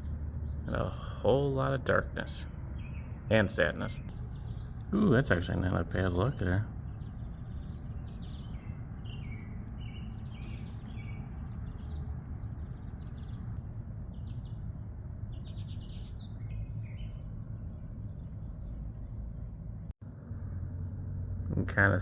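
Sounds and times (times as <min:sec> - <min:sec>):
songbirds chirping and trilling: 0:00.0 - 0:19.9
steady low rumble: 0:00.0 - 0:22.0.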